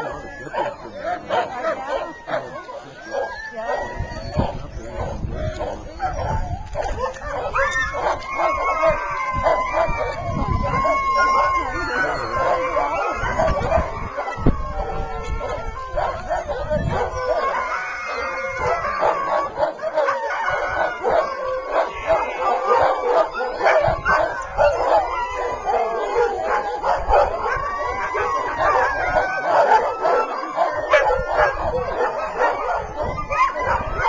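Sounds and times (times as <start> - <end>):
dogs barking and howling: 0.0 - 34.0.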